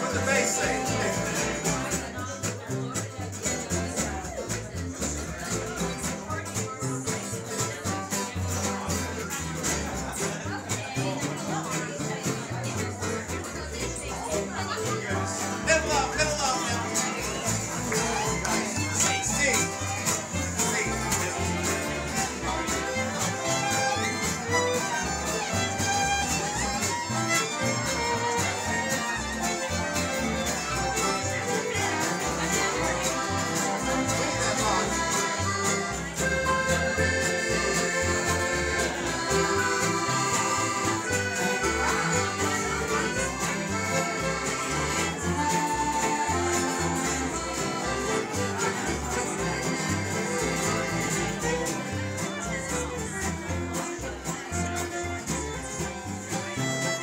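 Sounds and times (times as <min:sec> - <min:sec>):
fiddle: 0:00.0 - 0:57.0
mandolin: 0:00.0 - 0:57.0
strummed acoustic guitar: 0:00.0 - 0:57.0
upright bass: 0:00.0 - 0:57.0.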